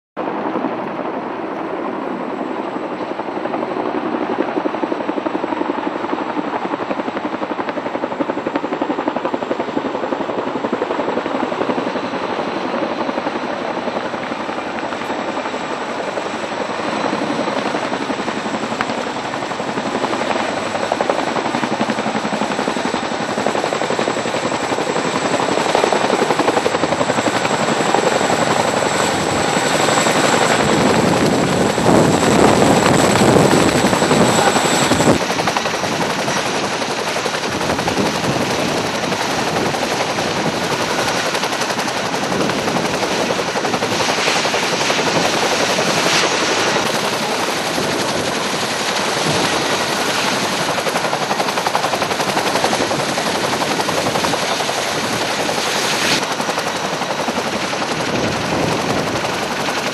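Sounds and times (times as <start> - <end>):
helicopter rotor and turbine din: 0.2 - 59.9.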